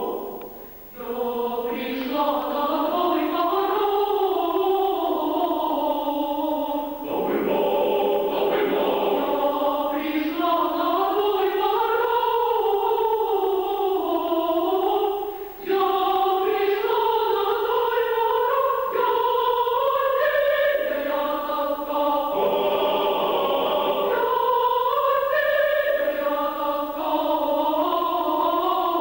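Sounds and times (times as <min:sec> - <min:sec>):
choir singing sustained chords: 0:00.0 - 0:29.0.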